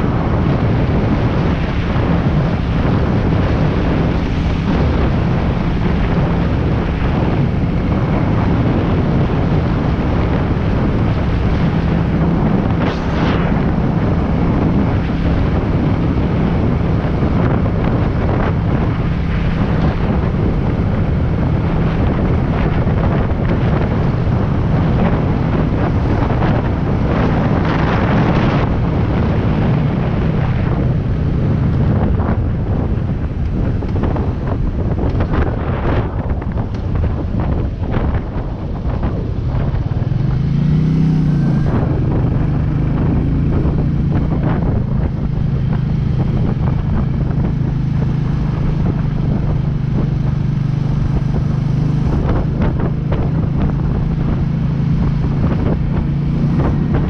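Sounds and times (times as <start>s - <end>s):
motorcycle engine humming: 0.0s - 57.0s
wind rushing over microphone: 0.0s - 57.0s.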